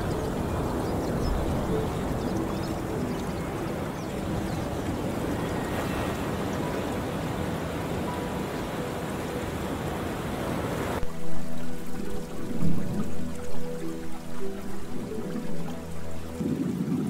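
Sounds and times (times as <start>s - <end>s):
faint held musical tones: 0.0s - 17.0s
rushing water waves: 0.0s - 17.0s.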